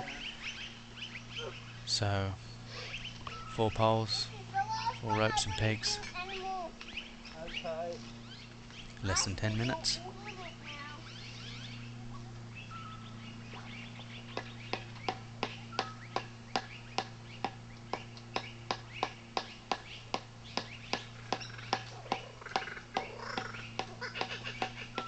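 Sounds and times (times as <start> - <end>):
birds chirping faintly: 0.0 - 25.0
steady low hum: 0.0 - 25.0.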